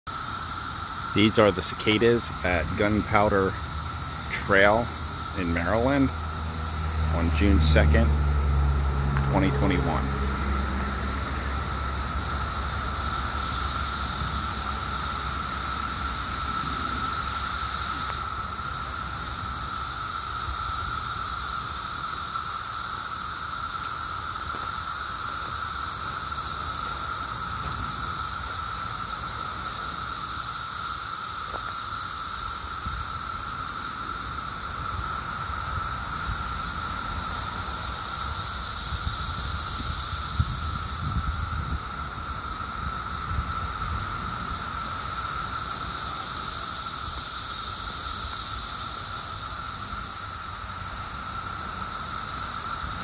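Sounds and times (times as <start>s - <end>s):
cicadas buzzing: 0.0s - 53.0s
low cicada whine: 0.0s - 53.0s.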